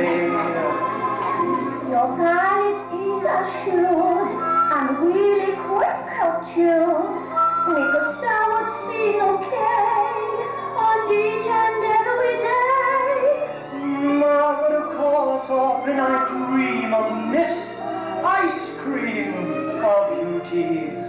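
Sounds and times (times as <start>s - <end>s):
woman singing show tune: 0.0s - 17.5s.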